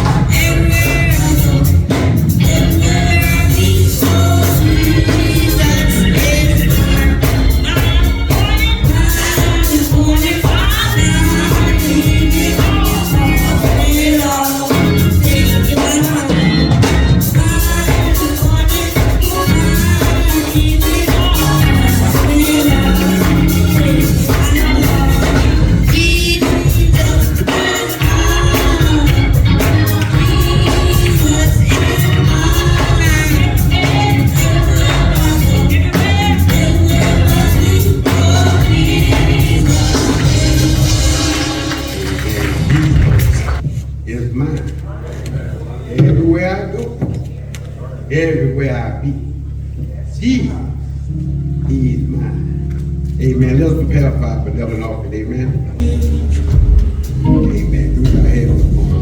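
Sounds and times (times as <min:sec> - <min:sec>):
gospel singing: 0:00.0 - 0:44.4, 0:50.0 - 0:59.0
full band playing: 0:00.0 - 0:49.9, 0:50.7 - 0:59.0.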